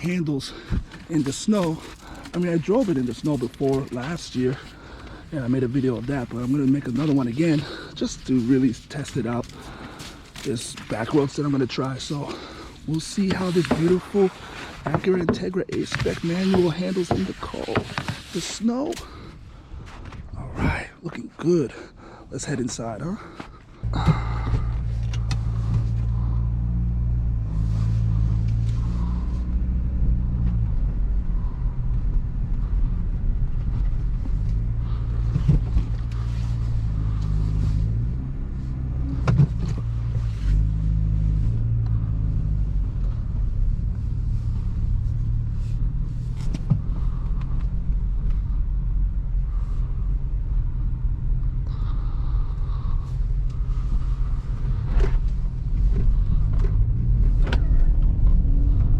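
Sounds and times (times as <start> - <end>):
car engine drone: 0.0 - 20.9, 21.5 - 58.9.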